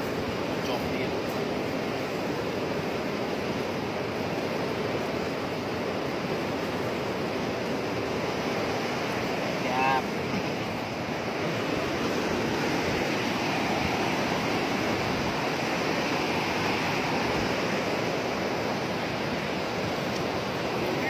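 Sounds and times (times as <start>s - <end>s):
water rushing through sluice gate: 0.0s - 21.0s.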